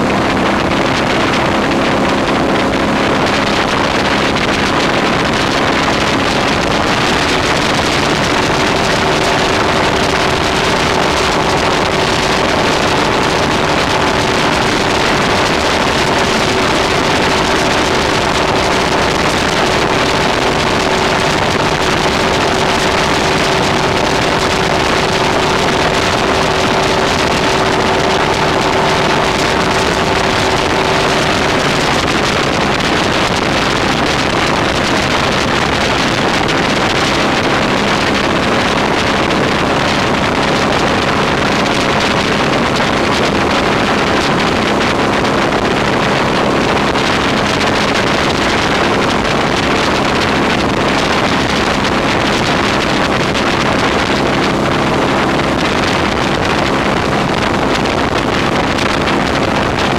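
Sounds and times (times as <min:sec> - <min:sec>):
boat engine running: 0:00.0 - 0:59.9
rush of wind and water: 0:00.0 - 0:59.9.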